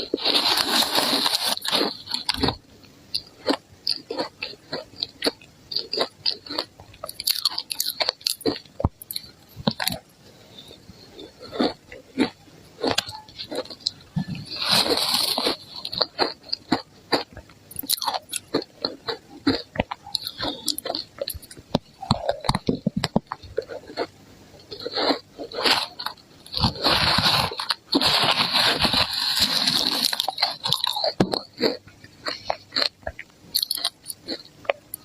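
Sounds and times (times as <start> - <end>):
ice being chewed: 0.0 - 35.0.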